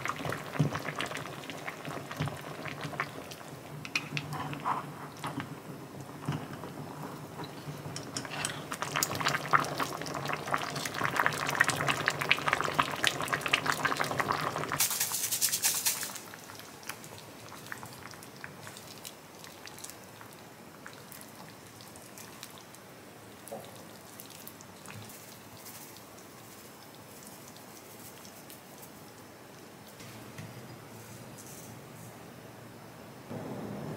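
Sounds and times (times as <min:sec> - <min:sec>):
food bubbling and crackling in pan: 0:00.0 - 0:30.9.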